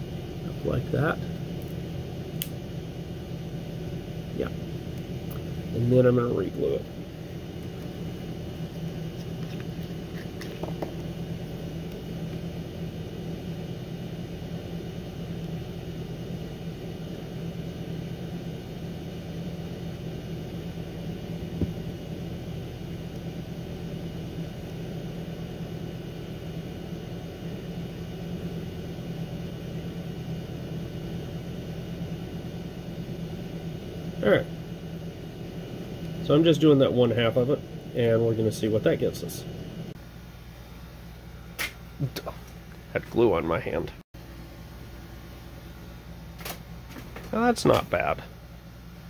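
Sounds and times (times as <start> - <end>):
low room hum: 0.0 - 49.0.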